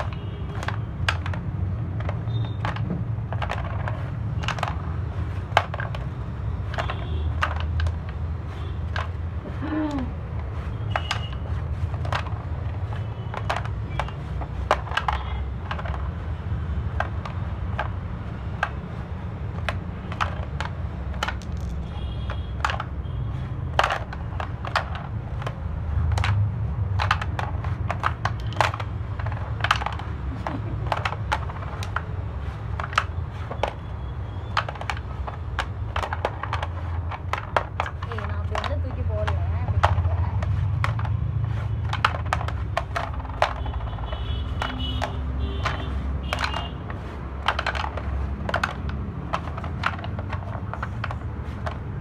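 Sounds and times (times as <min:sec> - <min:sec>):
wooden pucks clacking on board: 0:00.0 - 0:52.0.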